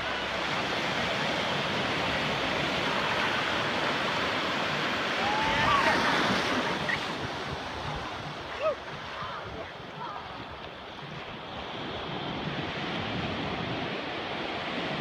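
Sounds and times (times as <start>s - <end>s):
small waves breaking: 0.0s - 15.0s
water rushing through surf: 0.0s - 15.0s.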